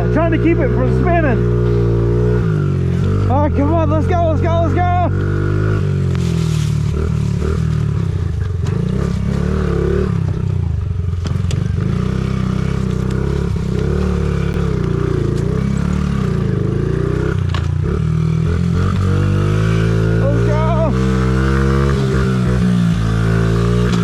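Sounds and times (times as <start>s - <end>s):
small motorbike engine revving: 0.0s - 10.6s, 11.2s - 24.0s.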